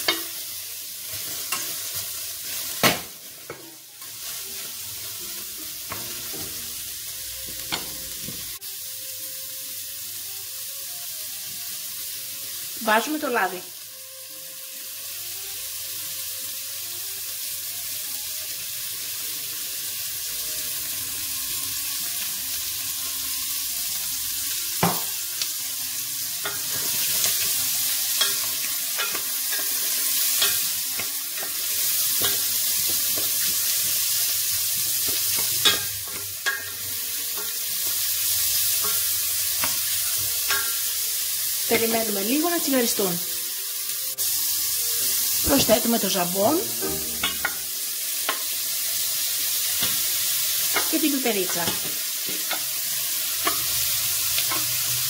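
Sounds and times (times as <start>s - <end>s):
onions sizzling in oil: 0.0s - 55.0s.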